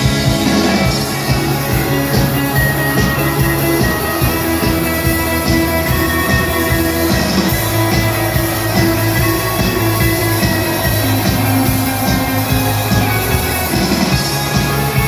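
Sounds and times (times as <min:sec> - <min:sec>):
instrumental music with beat: 0:00.0 - 0:15.0.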